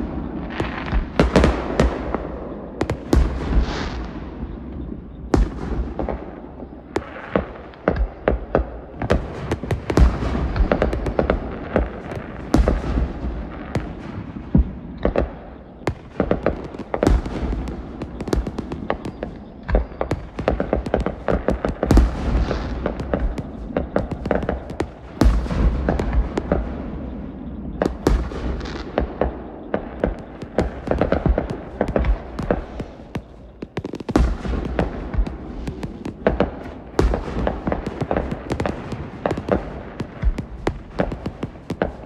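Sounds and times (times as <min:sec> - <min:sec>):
firework booms: 0:00.0 - 0:42.0.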